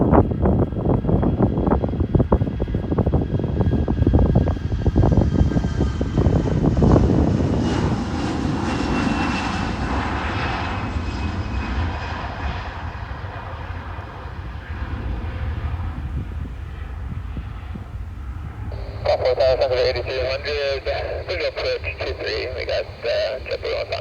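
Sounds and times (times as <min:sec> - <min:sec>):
jet airliner passing by: 0:00.0 - 0:24.0
wind gusting on microphone: 0:00.0 - 0:24.0.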